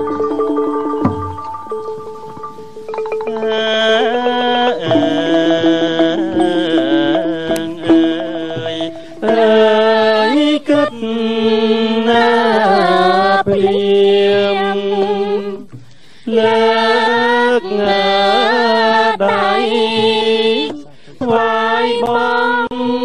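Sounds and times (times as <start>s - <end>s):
person singing ornamented notes: 0.0s - 23.0s.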